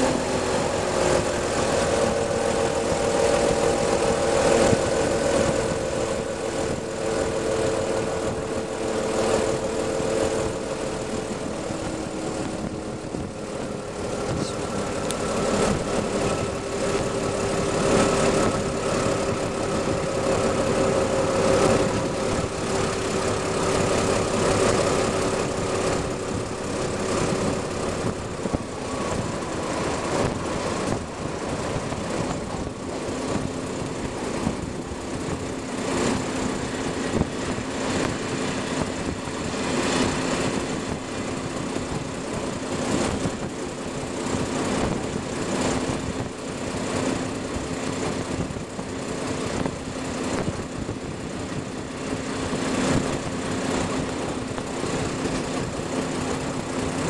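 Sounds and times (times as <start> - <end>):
steady train hum: 0.0 - 57.0
train wheels on track: 0.0 - 57.0
wind: 0.0 - 57.0.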